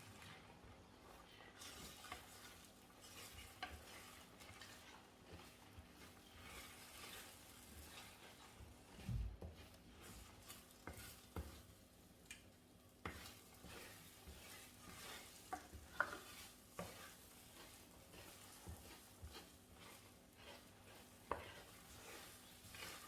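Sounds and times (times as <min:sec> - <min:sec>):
utensil scraping a pan: 0:00.0 - 0:12.0, 0:12.8 - 0:23.0
eggs frying in a pan: 0:00.0 - 0:23.0.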